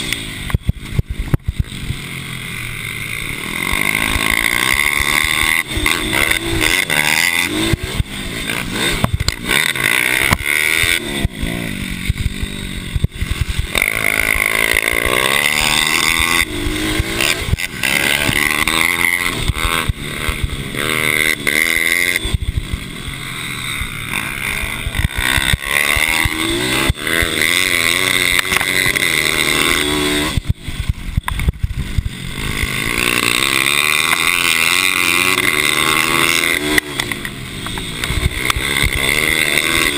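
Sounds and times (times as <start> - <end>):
mini bike engines revving: 0.0 - 39.9.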